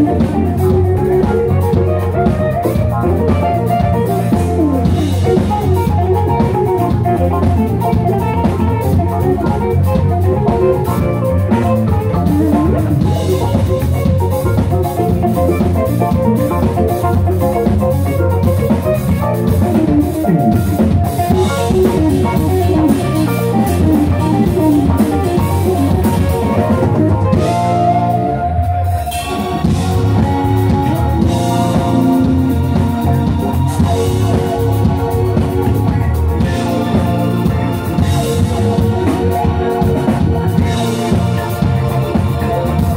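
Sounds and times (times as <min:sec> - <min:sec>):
drum kit: 0:00.0 - 0:42.9
electric guitars: 0:00.0 - 0:42.9
keyboards: 0:00.0 - 0:42.9.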